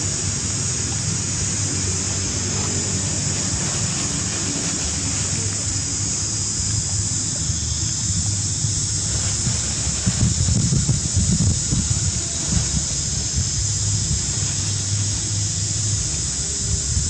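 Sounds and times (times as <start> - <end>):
constant high hiss: 0.0 - 17.0
wind rumble on microphone: 0.0 - 17.0.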